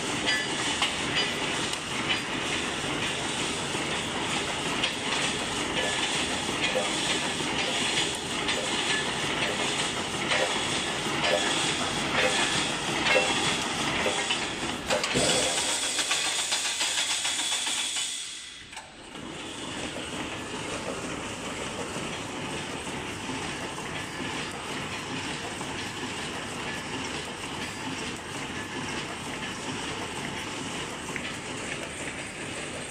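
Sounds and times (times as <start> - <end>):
welding machine hissing and clattering: 0.0 - 32.9.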